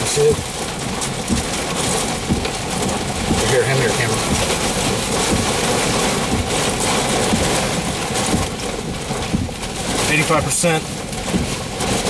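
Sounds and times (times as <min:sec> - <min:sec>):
heavy rain beating on car: 0:00.0 - 0:12.0.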